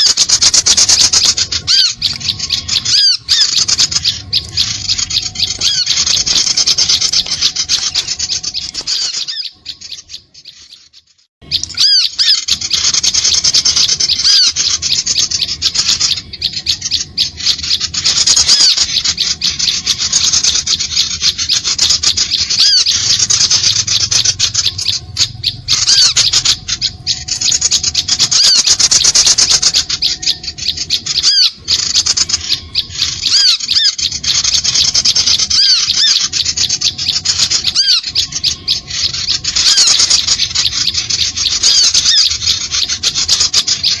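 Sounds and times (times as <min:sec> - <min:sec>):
small birds chattering: 0:00.0 - 0:44.0.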